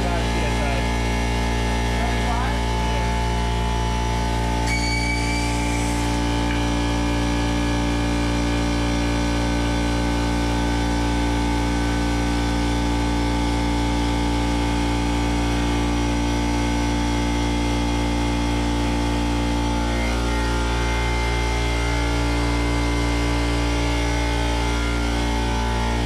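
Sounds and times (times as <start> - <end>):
engine running steadily: 0.0 - 4.7, 5.4 - 26.0.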